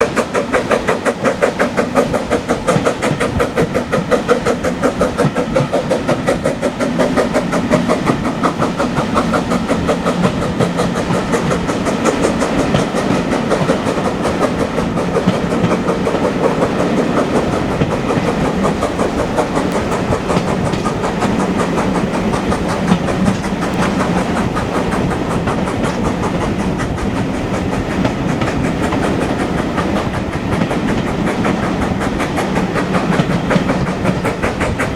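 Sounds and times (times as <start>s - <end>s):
rail noise: 0.0s - 34.9s
steam train chuffing: 0.0s - 34.9s.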